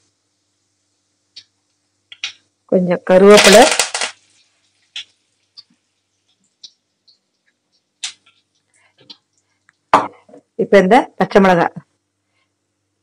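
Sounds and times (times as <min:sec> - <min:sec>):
seeds popping in hot oil: 0:00.0 - 0:10.6.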